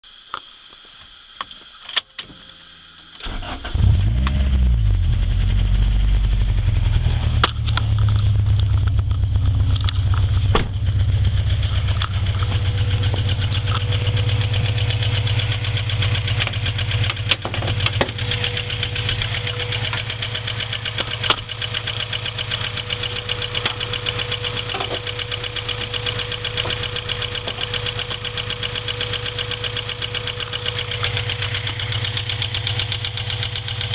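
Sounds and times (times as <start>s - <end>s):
car engine starting and idling: 2.8s - 33.9s
fast even engine ticking: 5.2s - 33.9s.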